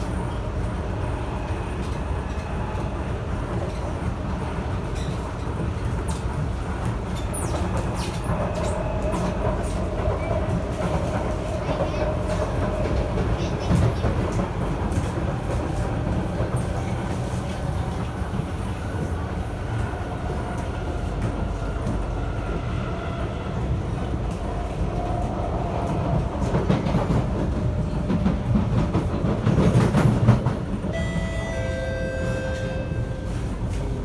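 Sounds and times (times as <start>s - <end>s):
train rumbling on track: 0.0s - 34.0s.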